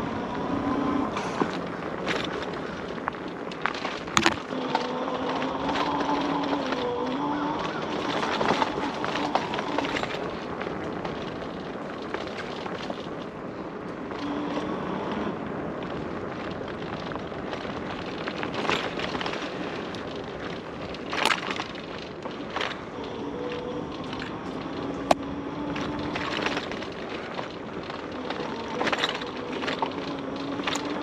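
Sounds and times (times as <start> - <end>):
tyre and wind noise: 0.0 - 31.0.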